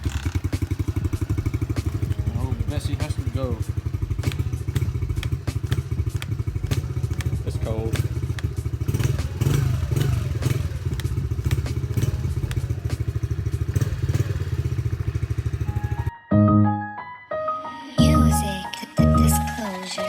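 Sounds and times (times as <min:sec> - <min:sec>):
dirt bike engine idling: 0:00.0 - 0:16.1.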